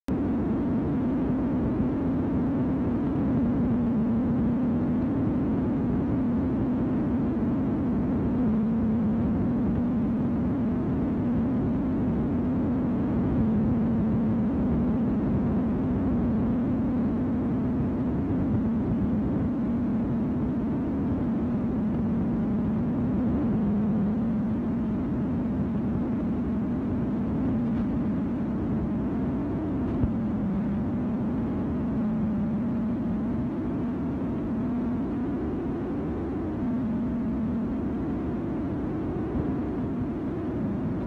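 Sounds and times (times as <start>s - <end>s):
low wavering hum: 0.1s - 41.0s
noise hiss: 0.1s - 41.0s.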